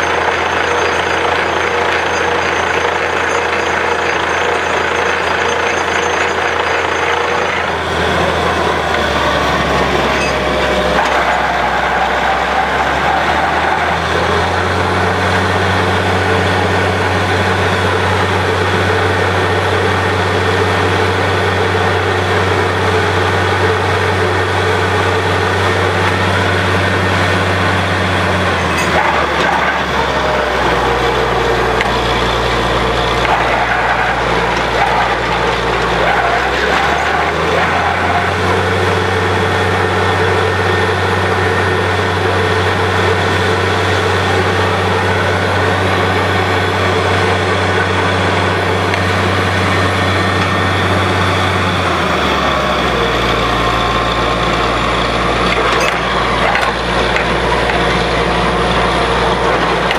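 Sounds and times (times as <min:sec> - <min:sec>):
drilling rig mechanical din: 0:00.0 - 0:59.9
low engine drone: 0:00.0 - 0:59.9.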